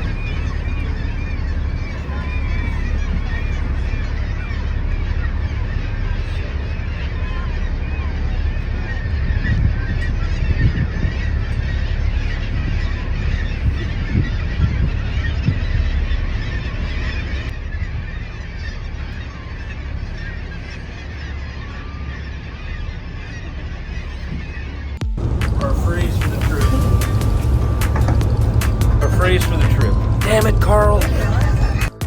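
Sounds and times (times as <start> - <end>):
seabird flock calling: 0.0 - 32.0
steady low rumble: 0.0 - 32.0.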